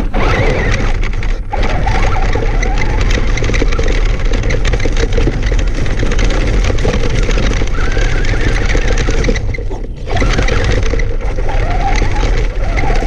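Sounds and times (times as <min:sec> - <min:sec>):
stones crunching and clattering: 0:00.0 - 0:13.0.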